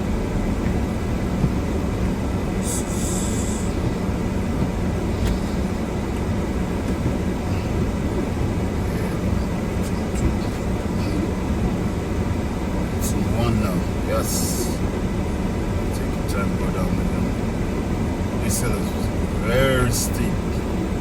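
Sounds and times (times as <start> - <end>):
car engine running: 0.0 - 21.0
wind buffeting a car: 0.0 - 21.0.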